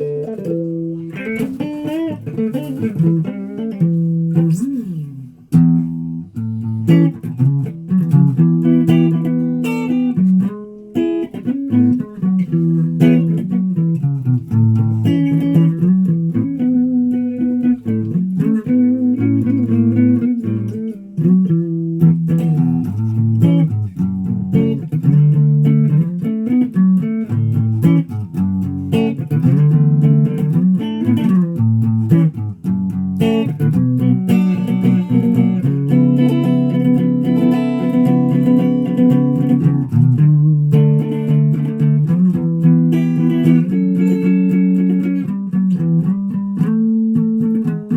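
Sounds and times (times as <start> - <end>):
plucked guitar notes: 0.0 - 47.9.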